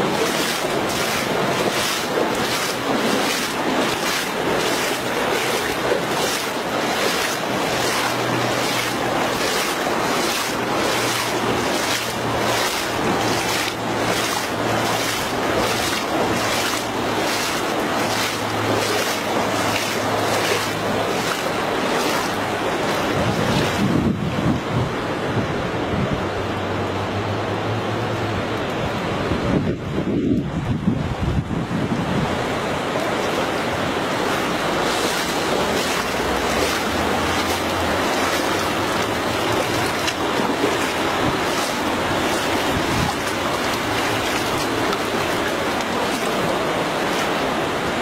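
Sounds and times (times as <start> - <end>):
wind buffeting microphone: 0.0 - 26.5, 28.9 - 33.0, 33.6 - 46.8
floodwater rushing and lapping: 0.0 - 48.0.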